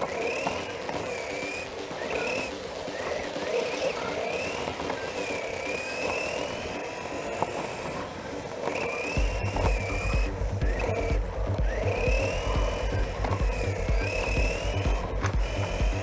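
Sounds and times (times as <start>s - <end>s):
drivetrain and tyre rumble: 0.0s - 16.0s
electric rc car motor whining: 0.0s - 16.0s.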